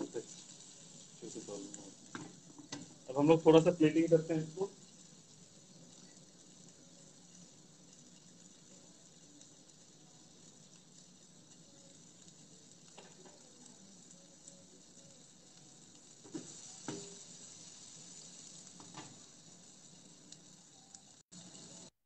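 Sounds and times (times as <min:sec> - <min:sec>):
skewers sizzling in grill pan: 0:00.0 - 0:22.0.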